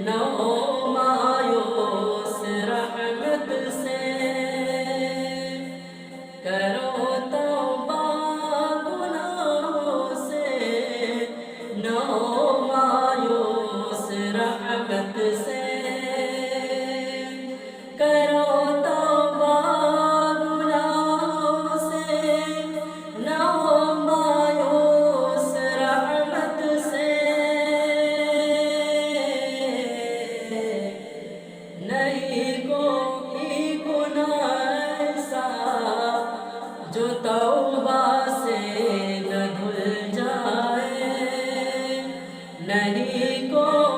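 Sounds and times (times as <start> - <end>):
layered voices singing wordlessly: 0.0 - 43.9.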